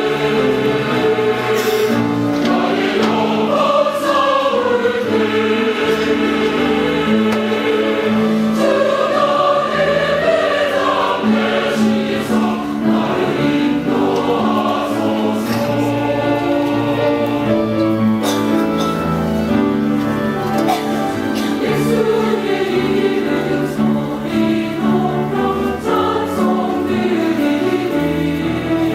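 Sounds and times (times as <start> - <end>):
church choir singing: 0.0 - 28.9.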